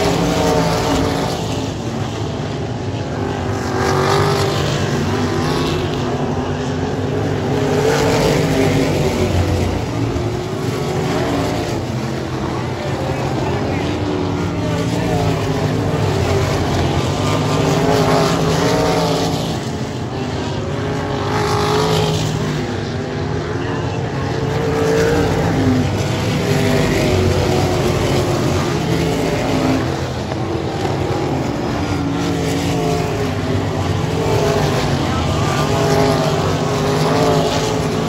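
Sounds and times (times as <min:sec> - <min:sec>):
race car engines at high revs: 0:00.0 - 0:38.0.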